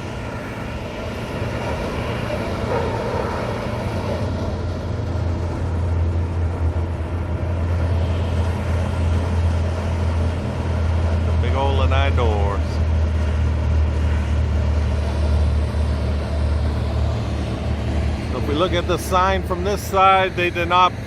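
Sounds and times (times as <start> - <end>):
low engine drone: 0.0 - 21.0
outdoor background noise: 0.0 - 21.0.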